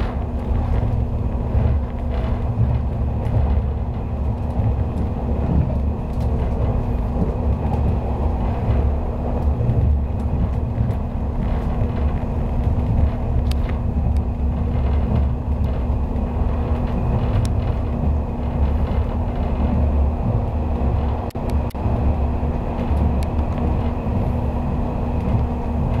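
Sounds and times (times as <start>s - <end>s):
constant hum: 0.0s - 26.0s
train cabin rumble: 0.0s - 26.0s.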